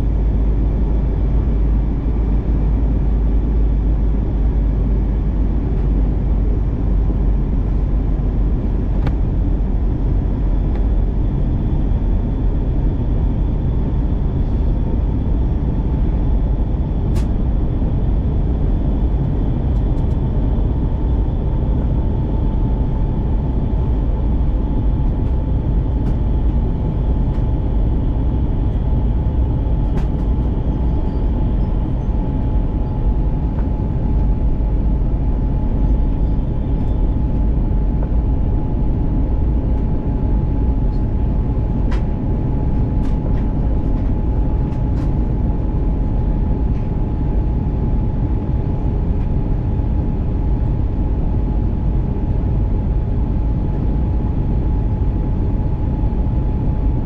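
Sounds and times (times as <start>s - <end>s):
airliner cabin airflow and engine: 0.0s - 57.0s.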